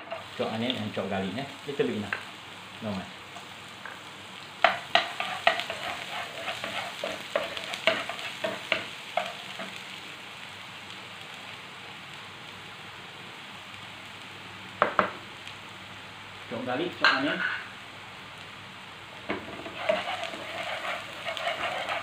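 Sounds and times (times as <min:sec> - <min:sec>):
onion sizzling in oil: 0:00.0 - 0:22.0.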